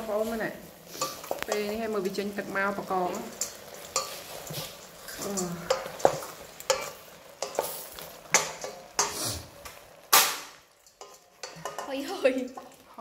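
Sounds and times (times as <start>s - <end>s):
utensils clinking against cookware: 0.0s - 13.0s.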